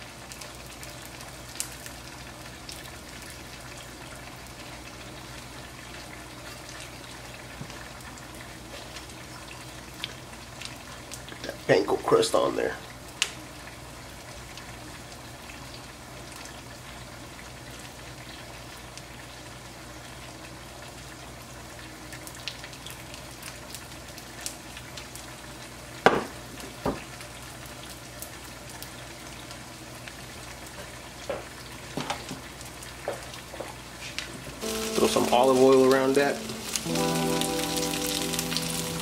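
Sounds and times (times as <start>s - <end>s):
fish sizzling in a pan: 0.0s - 12.3s, 12.9s - 39.0s.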